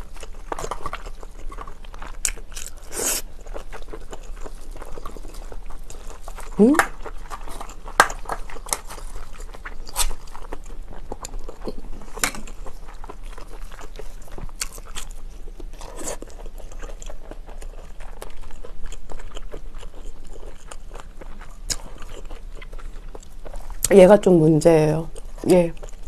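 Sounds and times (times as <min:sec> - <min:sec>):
person chewing: 0:00.0 - 0:23.9, 0:25.1 - 0:26.0.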